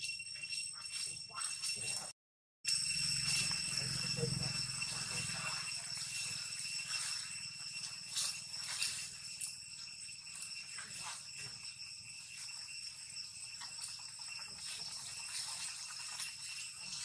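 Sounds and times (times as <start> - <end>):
high-pitched insect buzzing: 2.7 - 17.0.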